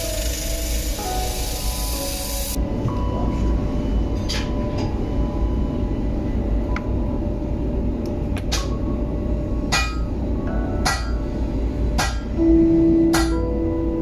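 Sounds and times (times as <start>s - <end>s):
steady low rumble: 2.5s - 14.0s.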